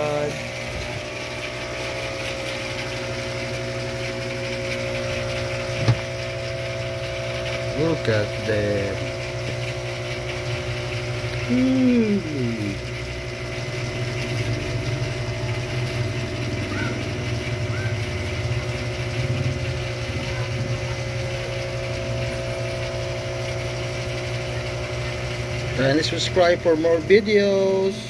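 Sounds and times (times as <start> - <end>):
aquarium pump humming: 0.0 - 28.0.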